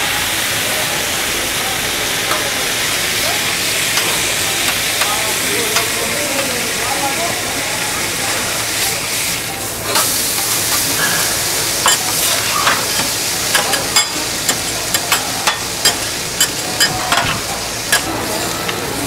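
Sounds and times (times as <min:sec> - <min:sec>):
food sizzling on griddle: 0:00.0 - 0:19.0.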